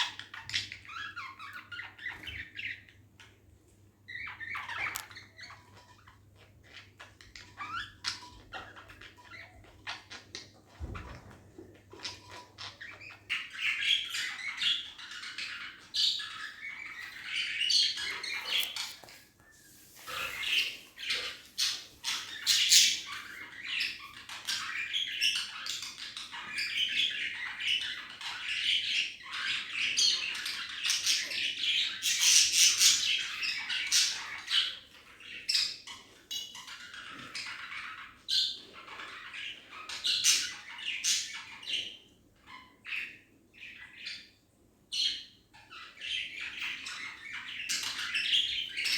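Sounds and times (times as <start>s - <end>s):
budgerigars chirping and chattering: 0.0s - 3.4s, 4.1s - 19.2s, 20.0s - 48.9s.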